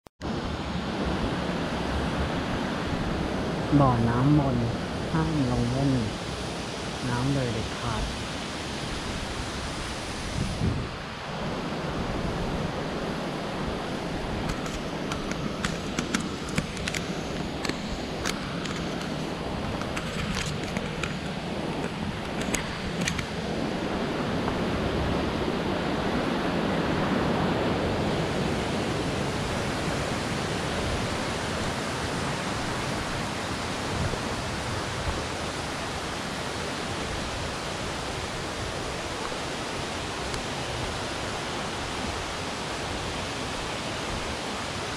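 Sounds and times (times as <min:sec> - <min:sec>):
waterfall roaring: 0:00.3 - 0:44.9.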